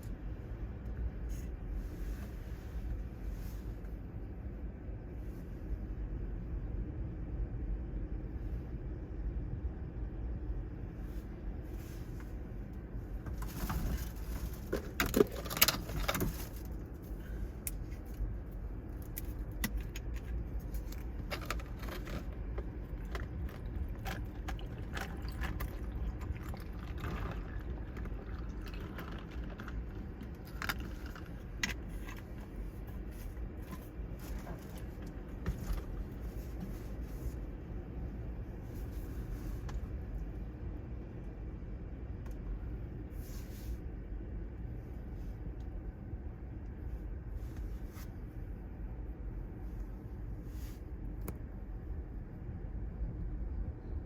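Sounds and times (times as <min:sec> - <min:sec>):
wind: 0:00.0 - 0:54.0.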